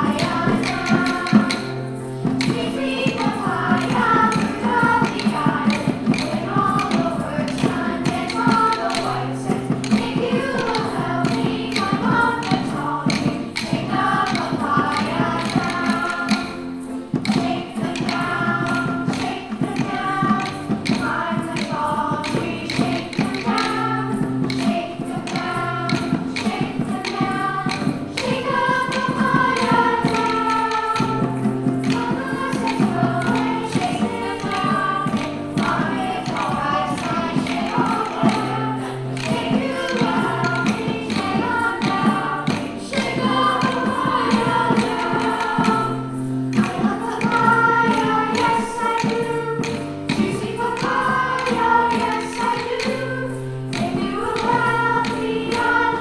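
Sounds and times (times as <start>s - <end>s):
children's choir singing: 0.0s - 56.0s
instrumental accompaniment: 0.0s - 56.0s
quick tapping beat: 0.0s - 56.0s.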